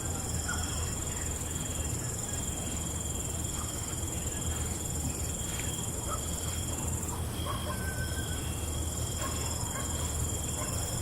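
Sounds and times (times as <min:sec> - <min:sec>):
crickets trilling: 0:00.0 - 0:11.0
fainter lower insect trill: 0:00.0 - 0:11.0
low steady hum: 0:00.0 - 0:11.0.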